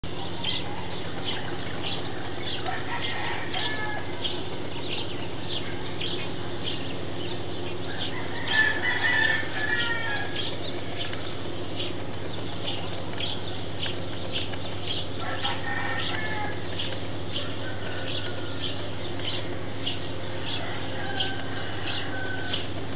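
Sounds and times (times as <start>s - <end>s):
birds chirping: 0.0s - 22.9s
steady low hum: 0.0s - 22.9s
loud bird call: 0.1s - 22.8s.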